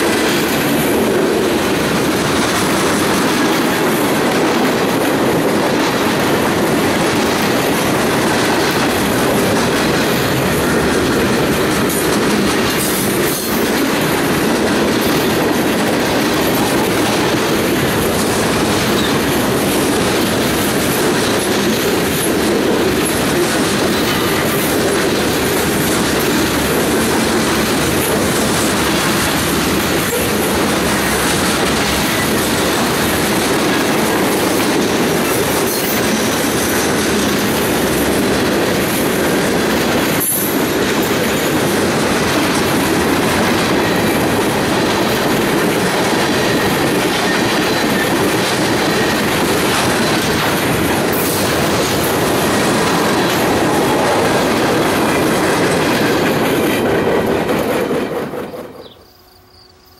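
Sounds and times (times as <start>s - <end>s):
wheels clacking over rail joints: 0.0s - 59.0s
freight cars rumbling on rails: 0.0s - 59.9s.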